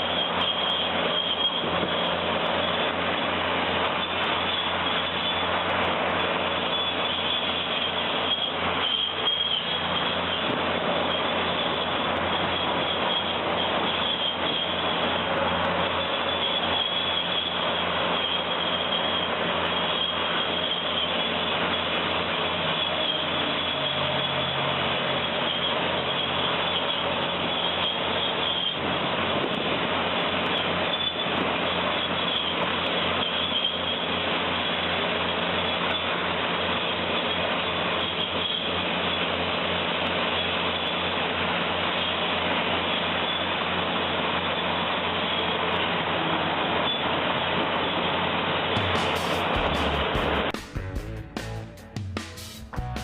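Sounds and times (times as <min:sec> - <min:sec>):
heavy machinery engine running: 0:00.0 - 0:53.0.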